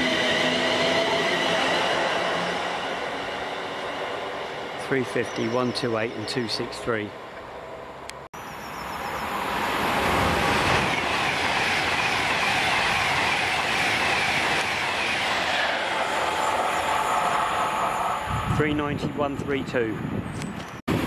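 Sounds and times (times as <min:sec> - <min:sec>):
train rushing past: 0:00.0 - 0:20.1.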